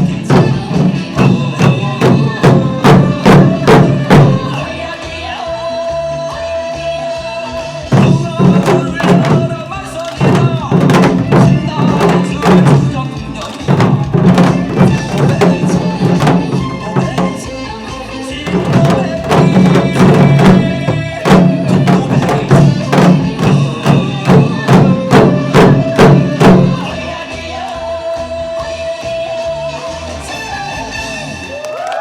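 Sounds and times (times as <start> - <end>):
drums struck in quick rhythm: 0.0 - 31.1.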